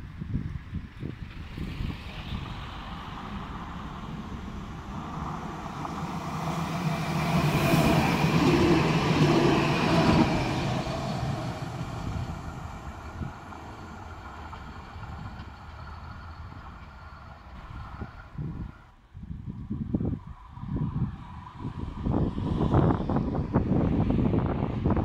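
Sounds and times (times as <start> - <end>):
electric tram passing: 0.9 - 19.0, 19.7 - 25.0.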